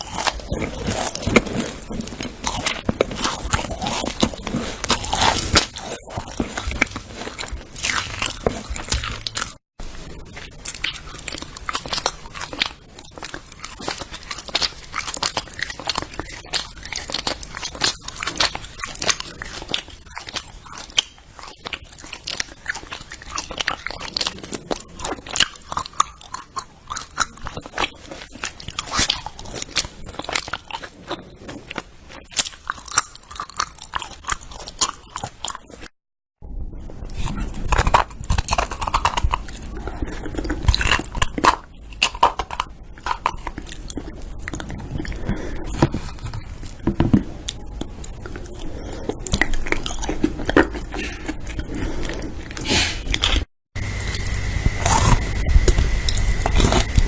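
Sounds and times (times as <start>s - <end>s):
chewing and crunching: 0.0s - 35.9s, 37.0s - 57.0s.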